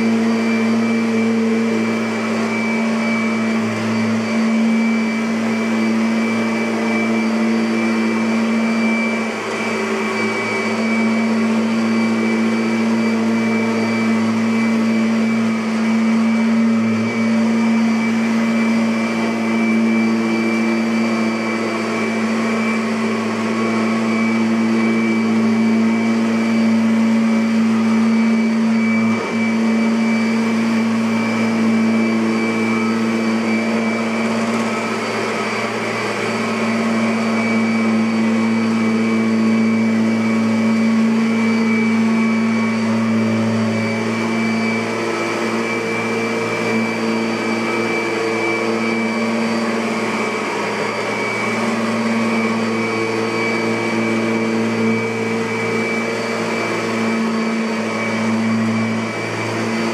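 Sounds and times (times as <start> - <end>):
vacuum cleaner running on carpet: 0.0 - 59.9.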